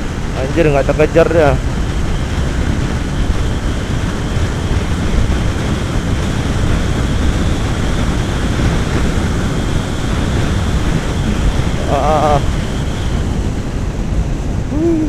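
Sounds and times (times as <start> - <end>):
motorcycle engine running: 0.0 - 15.0
wind rush over microphone: 0.0 - 15.0.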